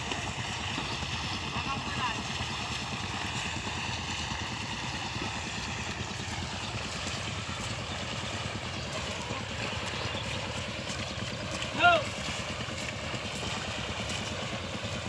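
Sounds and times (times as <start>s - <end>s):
engine droning steadily: 0.0s - 15.0s.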